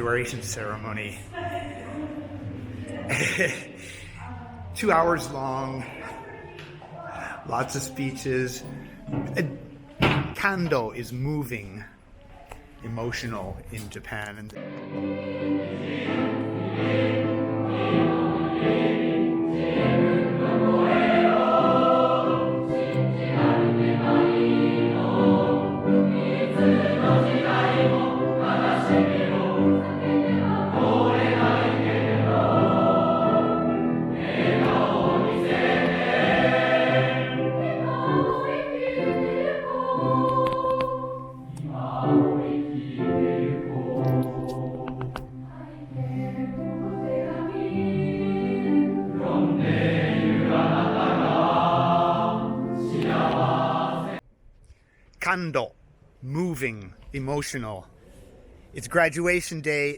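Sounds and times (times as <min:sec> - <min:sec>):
choir singing: 0:00.0 - 0:09.6, 0:14.6 - 0:54.2.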